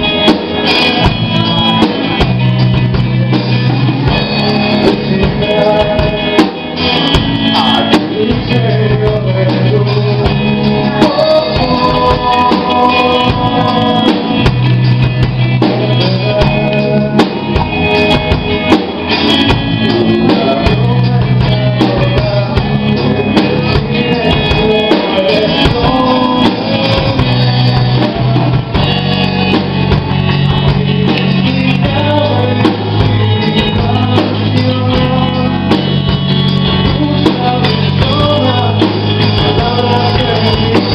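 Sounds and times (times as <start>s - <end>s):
drum kit: 0.0s - 40.9s
electric bass: 0.0s - 40.9s
man singing: 0.0s - 40.9s.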